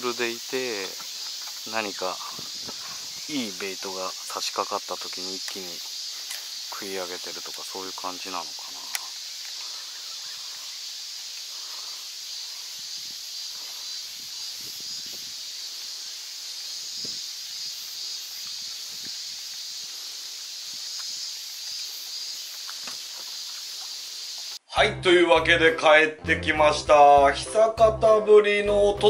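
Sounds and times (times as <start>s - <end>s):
cicadas shrilling: 0.0s - 24.7s.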